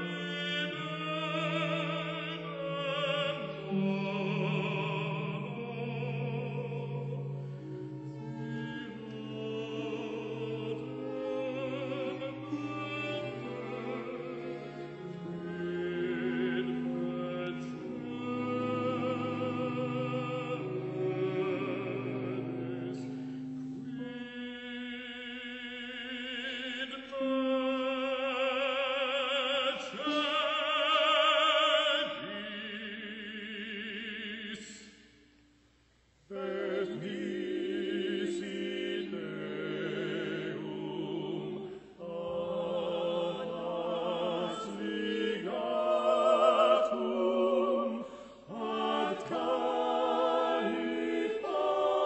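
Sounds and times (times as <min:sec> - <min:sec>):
choir singing: 0:00.0 - 0:34.9, 0:36.3 - 0:52.0.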